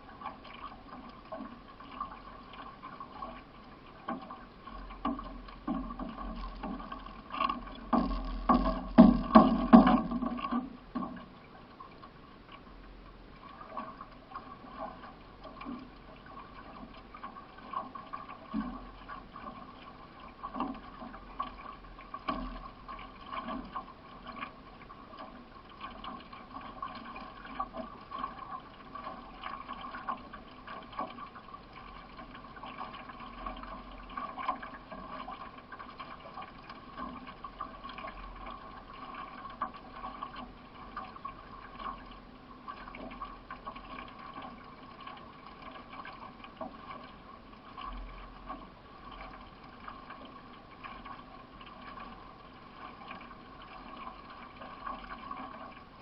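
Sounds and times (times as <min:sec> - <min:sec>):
paddle strokes: 0:00.0 - 0:56.0
water splashing and trickling: 0:00.0 - 0:56.0.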